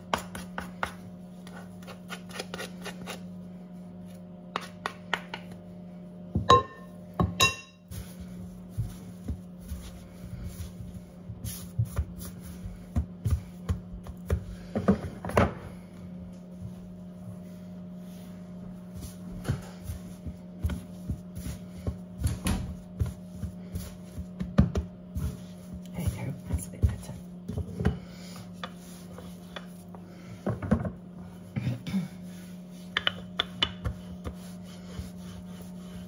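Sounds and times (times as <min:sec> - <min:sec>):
hands kneading dough: 0:00.0 - 0:36.0
steady low hum: 0:00.0 - 0:36.0.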